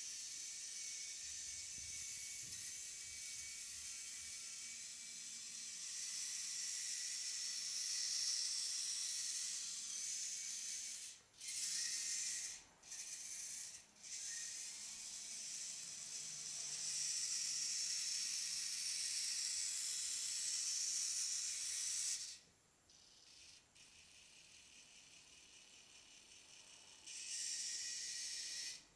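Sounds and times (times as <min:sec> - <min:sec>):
robot drive motors whirring: 0:00.0 - 0:28.9.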